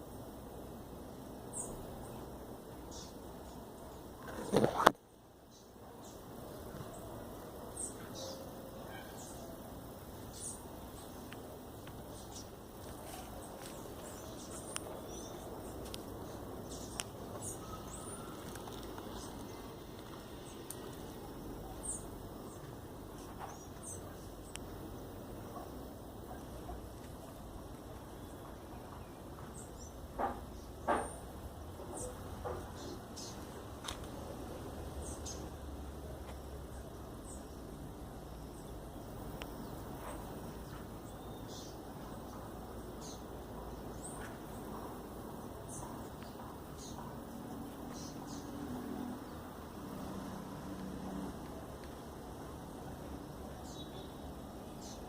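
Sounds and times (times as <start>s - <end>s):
low background hiss: 0.0s - 55.0s
low background noise: 0.0s - 55.0s
small birds chirping: 1.4s - 55.0s.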